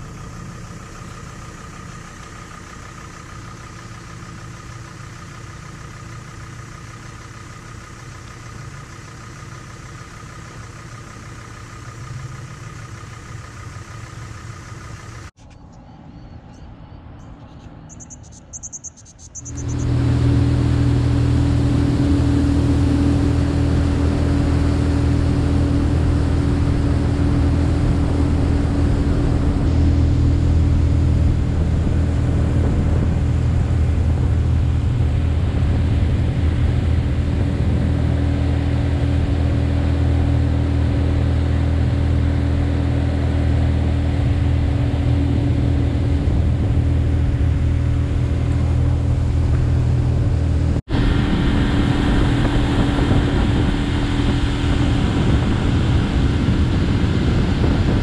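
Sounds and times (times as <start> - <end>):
outboard motor running: 0.0 - 15.4, 19.3 - 58.0
wind: 0.0 - 58.0.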